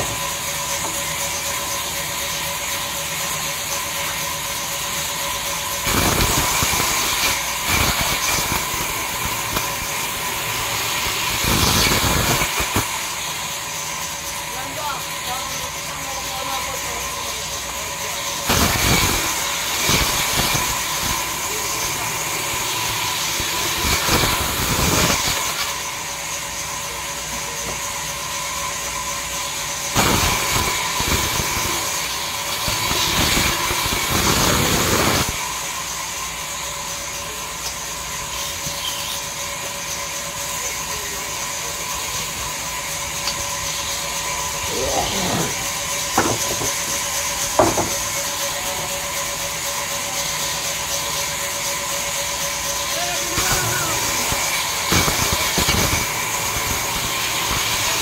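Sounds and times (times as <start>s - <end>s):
band saw cutting wood: 0.0s - 58.0s.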